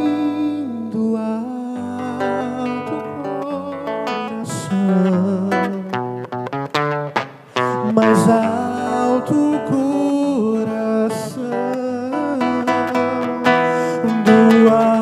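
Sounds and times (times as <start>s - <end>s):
man singing wordless notes: 0.0s - 6.2s, 7.6s - 15.0s
acoustic guitar: 0.0s - 15.0s.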